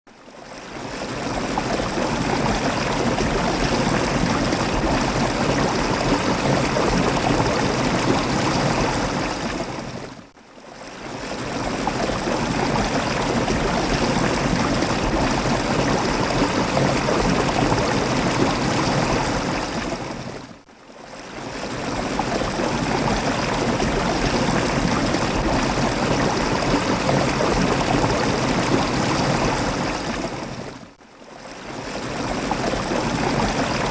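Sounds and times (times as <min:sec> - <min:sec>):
waterfall rushing and splashing: 0:00.8 - 0:09.9, 0:11.0 - 0:20.0, 0:21.4 - 0:30.6, 0:31.4 - 0:33.9.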